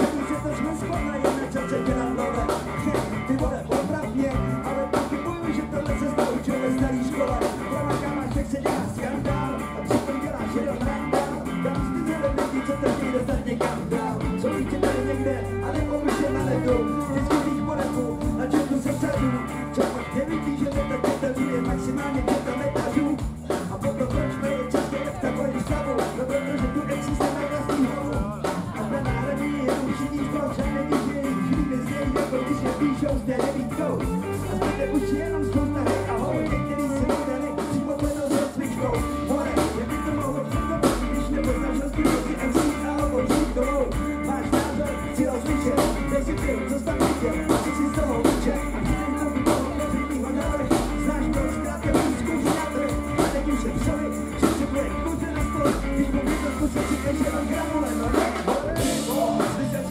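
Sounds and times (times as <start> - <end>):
live band playing: 0.0 - 59.9
person singing into microphone: 0.0 - 59.9.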